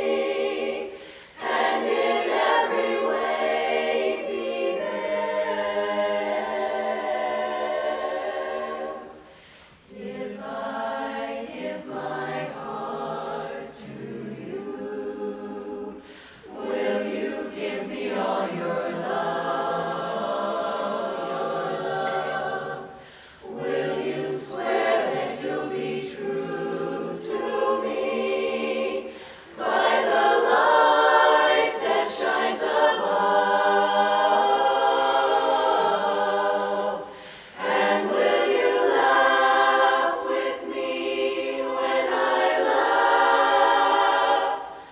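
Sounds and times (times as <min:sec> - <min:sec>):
women's chorus singing a cappella: 0:00.0 - 0:44.9.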